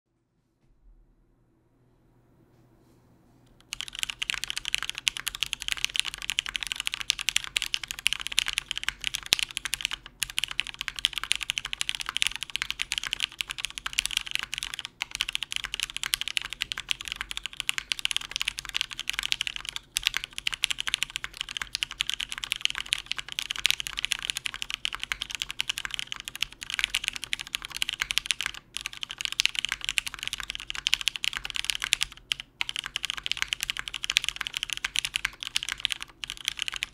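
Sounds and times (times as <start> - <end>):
fast mechanical keyboard typing: 3.6 - 36.9.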